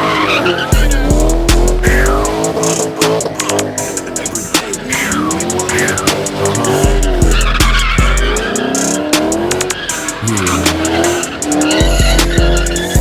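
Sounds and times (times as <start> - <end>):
car engine at high revs: 0.0 - 13.0
hip-hop beat: 0.0 - 13.0
tires squealing: 0.0 - 13.0.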